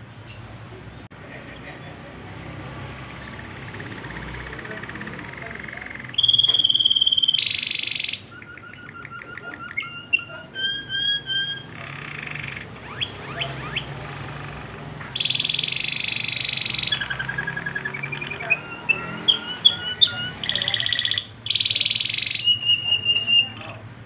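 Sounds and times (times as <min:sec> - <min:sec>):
canary singing: 0:00.0 - 0:23.9.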